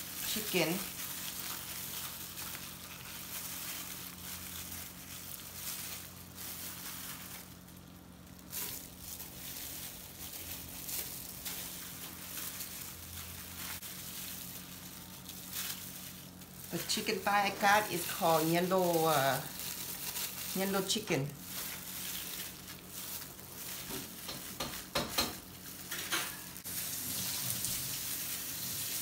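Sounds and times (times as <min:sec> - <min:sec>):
chicken tearing and crackling: 0:00.0 - 0:25.9, 0:26.6 - 0:29.0
low steady hum: 0:00.0 - 0:29.0.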